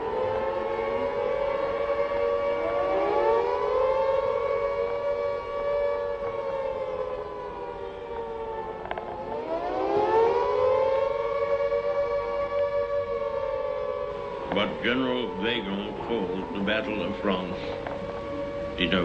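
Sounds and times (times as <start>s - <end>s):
air-raid siren wailing: 0.0s - 19.0s.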